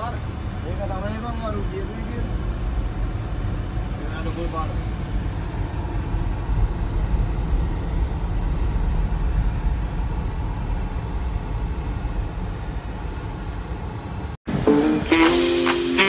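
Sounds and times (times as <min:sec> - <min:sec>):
car engine and tyres rumbling: 0:00.0 - 0:14.5.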